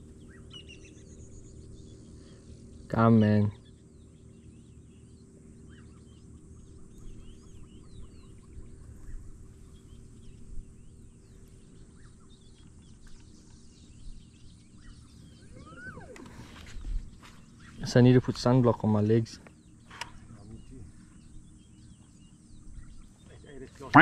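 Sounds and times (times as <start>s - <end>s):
birds chirping: 0.0s - 24.0s
faint low hum: 0.0s - 24.0s.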